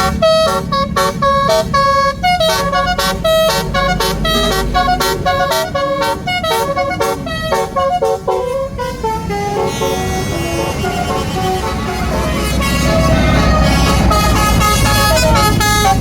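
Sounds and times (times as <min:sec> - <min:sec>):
bus horn playing a melody: 0:00.0 - 0:16.0
low rumble: 0:00.0 - 0:16.0.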